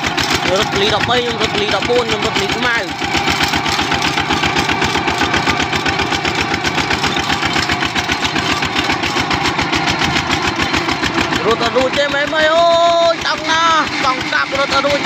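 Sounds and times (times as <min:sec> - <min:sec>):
walking tractor diesel engine: 0:00.0 - 0:15.0.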